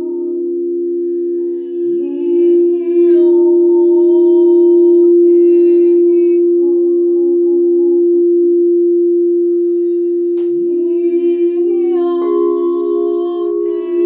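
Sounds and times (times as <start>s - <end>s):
woman humming: 0.0s - 7.4s, 9.4s - 14.0s
singing bowl ringing: 0.0s - 14.0s.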